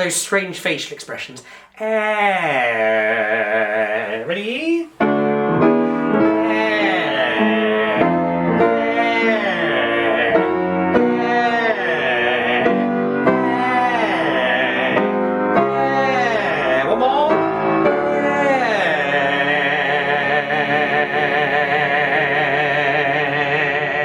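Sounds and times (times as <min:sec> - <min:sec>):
person singing vocal warm-up: 0:00.8 - 0:24.0
piano chords: 0:03.4 - 0:24.0.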